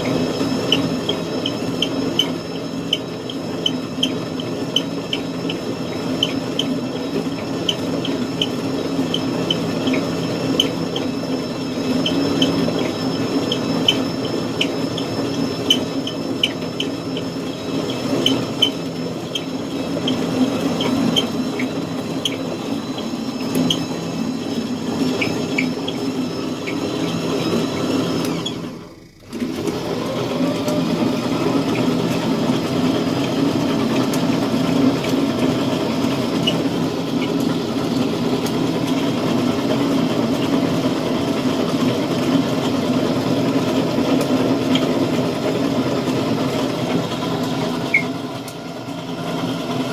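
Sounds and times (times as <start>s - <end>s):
lathe motor hum: 0.0s - 49.9s.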